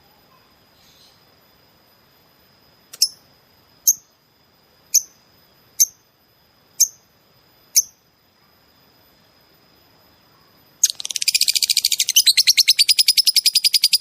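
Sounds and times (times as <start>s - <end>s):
faint steady high tone: 0.0s - 14.0s
songbird chirps: 0.0s - 14.0s.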